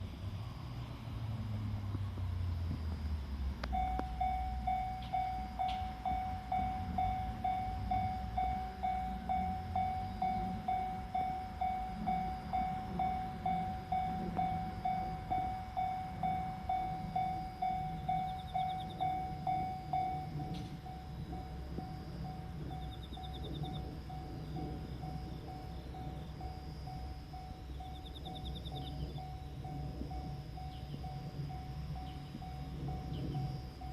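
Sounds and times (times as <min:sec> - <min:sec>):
low rumble: 0:00.0 - 0:33.9
level crossing alarm dinging: 0:03.7 - 0:33.9.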